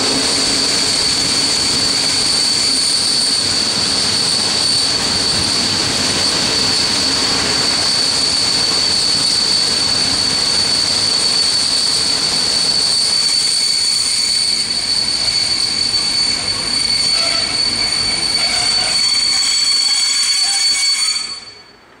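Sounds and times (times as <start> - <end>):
train running gear rumbling: 0.0 - 21.9
train brakes squealing: 0.0 - 22.0
lower brake squeal: 0.1 - 21.8.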